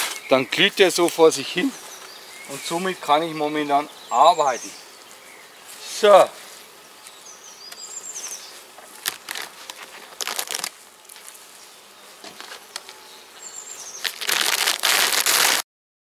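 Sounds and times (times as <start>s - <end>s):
honeybees buzzing: 0.0s - 15.6s
loud rustling of hive: 0.0s - 15.6s.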